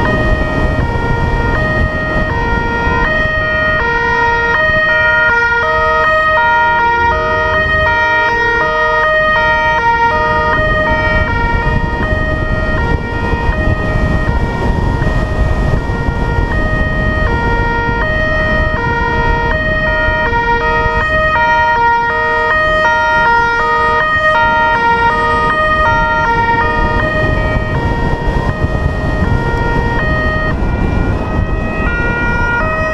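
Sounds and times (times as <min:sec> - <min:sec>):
car engine and road noise: 0:00.0 - 0:32.9
two-tone police siren: 0:00.0 - 0:32.9.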